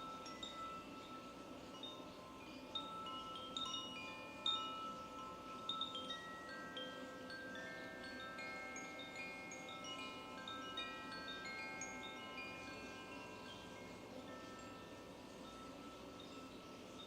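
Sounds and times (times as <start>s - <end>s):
wind chimes ringing: 0.0s - 17.0s.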